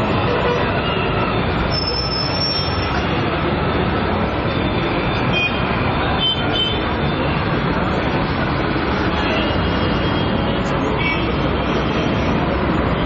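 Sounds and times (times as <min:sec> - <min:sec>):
large crowd din: 0:00.0 - 0:13.0.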